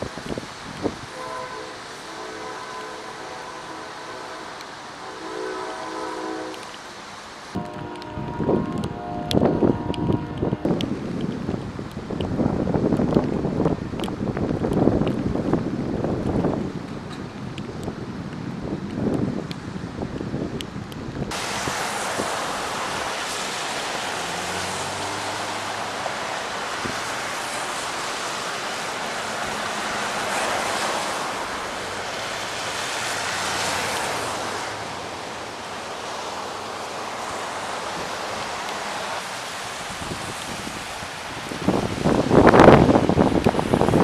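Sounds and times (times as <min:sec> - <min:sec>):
tyres hissing on wet road: 0:00.0 - 0:44.0.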